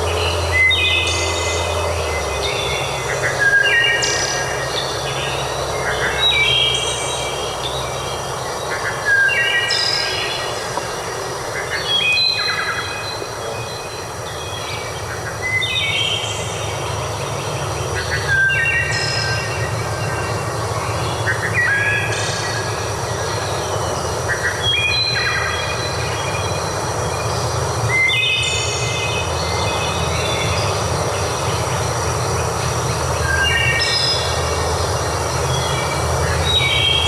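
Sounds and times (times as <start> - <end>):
steady background hiss: 0.0 - 37.0.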